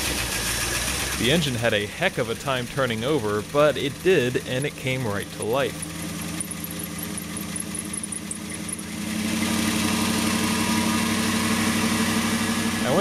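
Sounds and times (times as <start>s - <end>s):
car engine fast idle: 0.0s - 13.0s.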